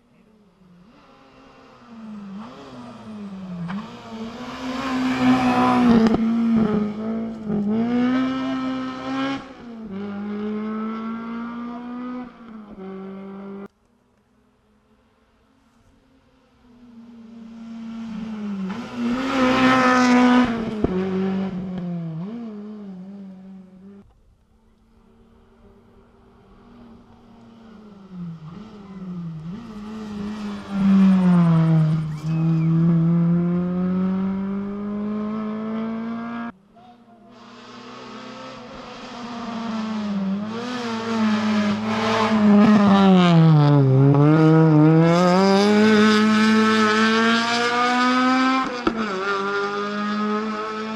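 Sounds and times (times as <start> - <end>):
rally car engines revving: 0.0 - 13.7, 16.2 - 24.1, 25.0 - 50.9.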